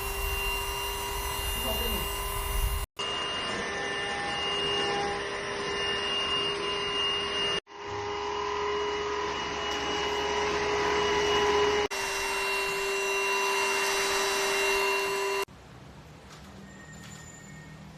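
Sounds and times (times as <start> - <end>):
stick vacuum cleaner running: 0.0 - 15.5.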